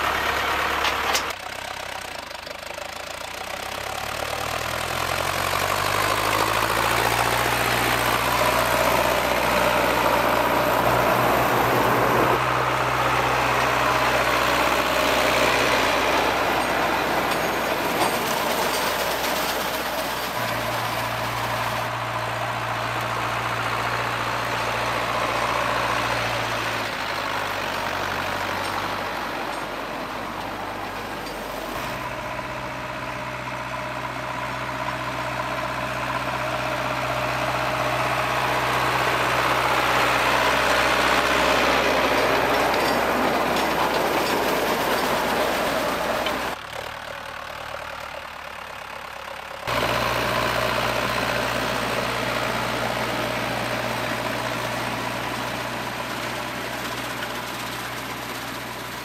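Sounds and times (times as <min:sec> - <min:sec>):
manure spreader rushing noise: 0:00.0 - 0:59.0
tractor engine running: 0:00.0 - 0:59.0.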